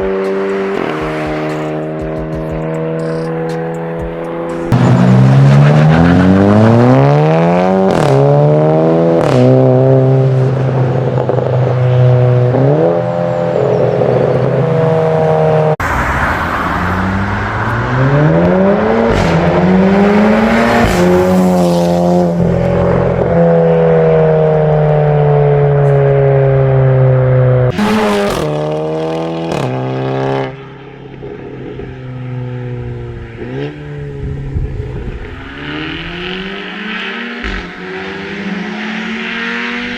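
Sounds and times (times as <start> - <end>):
car engine accelerating hard: 4.4 - 39.9.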